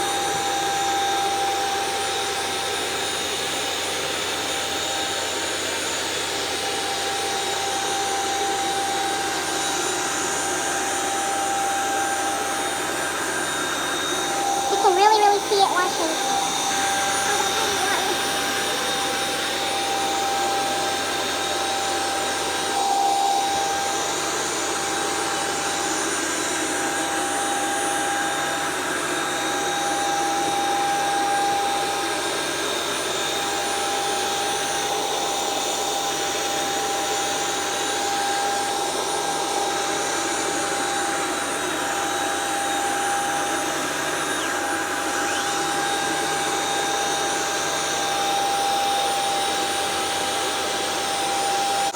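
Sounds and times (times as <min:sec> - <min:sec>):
carpet washer motor whine: 0:00.0 - 0:51.9.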